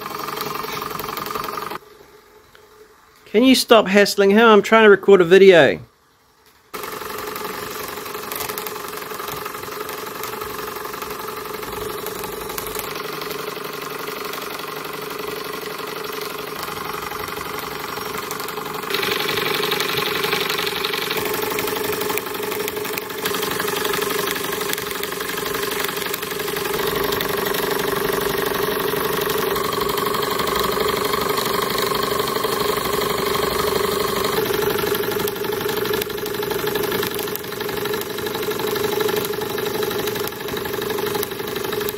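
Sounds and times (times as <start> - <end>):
model steam engine running: 0.0 - 1.8, 6.8 - 41.9.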